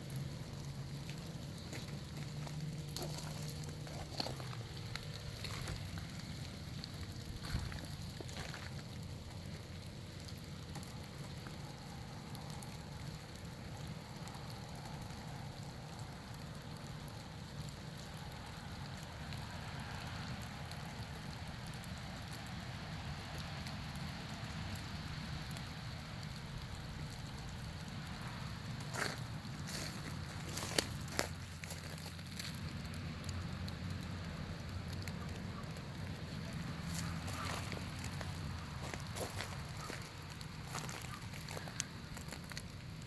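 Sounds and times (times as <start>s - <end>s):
patter of falling drops: 0.0s - 43.0s.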